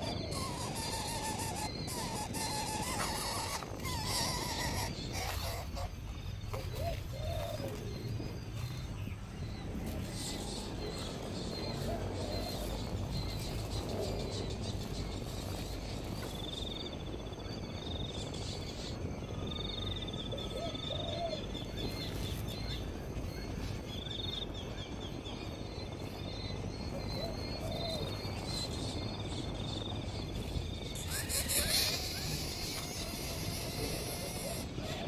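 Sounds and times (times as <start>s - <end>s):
birds trilling: 0.0s - 35.0s
lower bird calls: 0.0s - 35.0s
steady background hiss: 0.0s - 35.0s.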